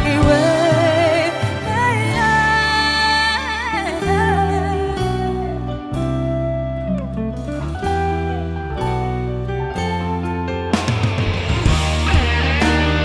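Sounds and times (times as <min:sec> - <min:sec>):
bass: 0:00.0 - 0:13.0
lead guitar melody: 0:00.0 - 0:13.0.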